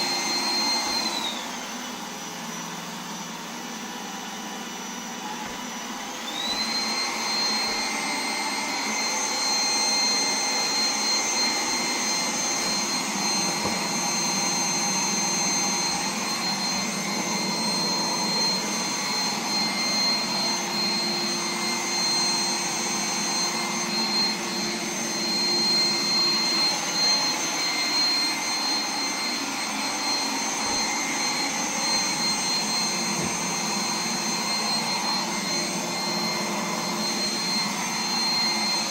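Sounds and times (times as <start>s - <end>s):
robot vacuum fan whining: 0.0s - 38.9s.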